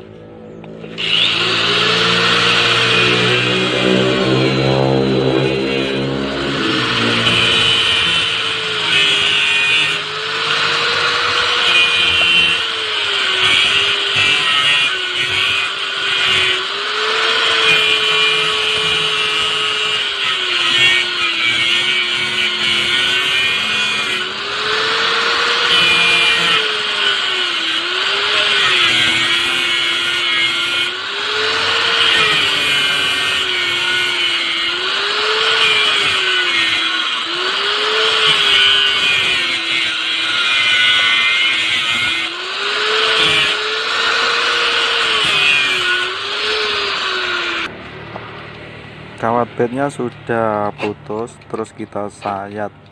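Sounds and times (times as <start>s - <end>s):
angle grinder cutting steel wire: 0.6s - 47.7s.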